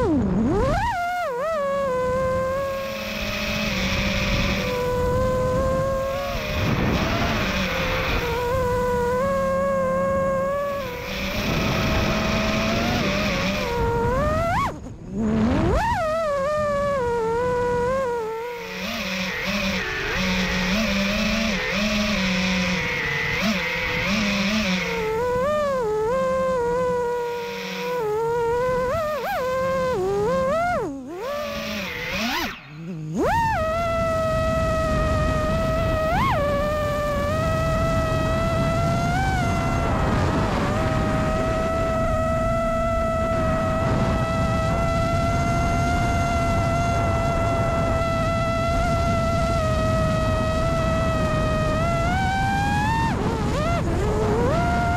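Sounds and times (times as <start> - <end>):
quadcopter motors whining: 0.0 - 54.9
wind on microphone: 0.0 - 54.9.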